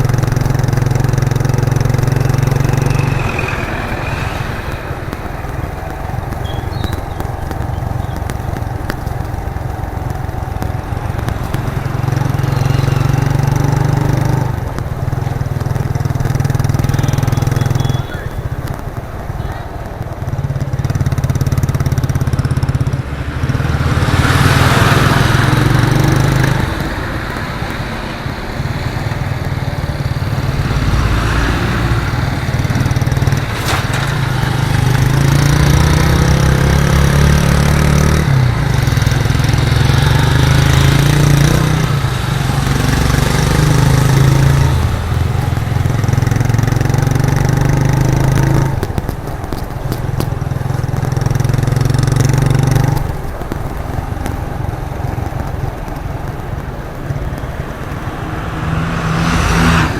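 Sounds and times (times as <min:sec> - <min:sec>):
motorcycle engine revving: 0:00.0 - 0:59.9
road and traffic noise: 0:00.0 - 0:59.9.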